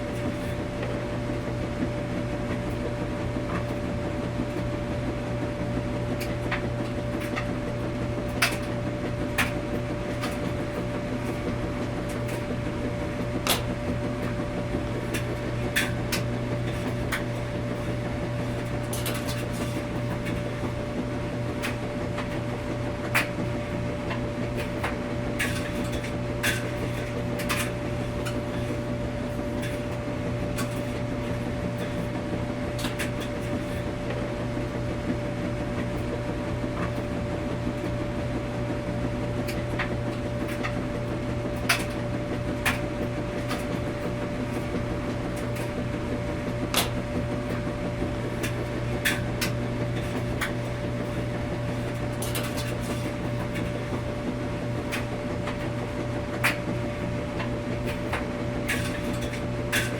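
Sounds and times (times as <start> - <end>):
washing machine humming: 0.0 - 59.9.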